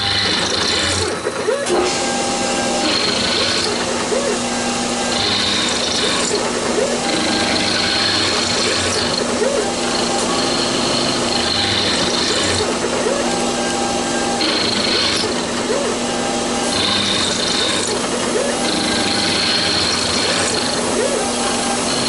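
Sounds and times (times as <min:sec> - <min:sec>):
milling machine running: 0:00.0 - 0:22.0
scraping cutting tone: 0:02.6 - 0:22.0.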